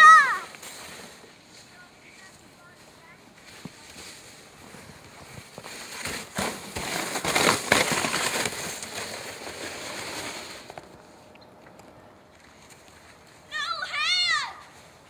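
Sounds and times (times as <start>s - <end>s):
sled sliding over snow: 0.0s - 11.3s, 12.3s - 15.0s.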